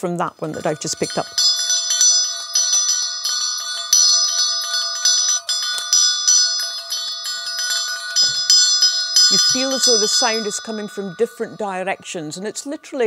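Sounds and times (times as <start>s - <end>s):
bell ringing tone: 0.4s - 12.8s
bell clapper strikes: 0.5s - 11.7s.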